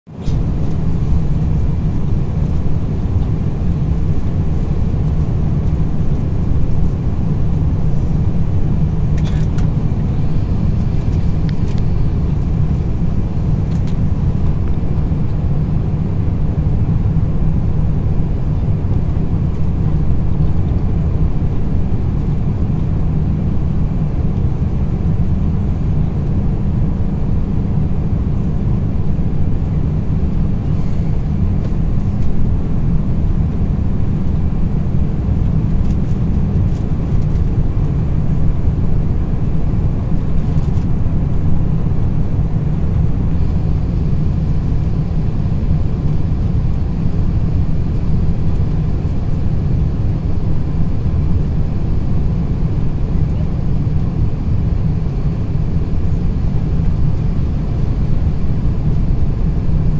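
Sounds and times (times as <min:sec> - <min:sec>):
low rumble of engines and airflow: 0:00.0 - 0:59.9.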